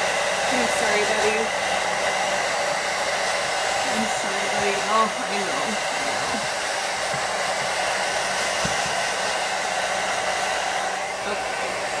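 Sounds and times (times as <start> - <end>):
blow dryer running: 0.0 - 12.0.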